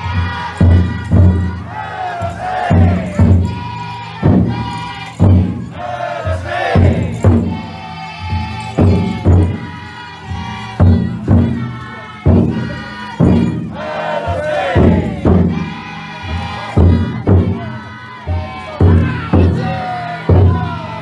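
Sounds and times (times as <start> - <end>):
large drum strikes: 0.0 - 13.8, 14.4 - 21.0
crowd chanting and shouting: 0.0 - 21.0.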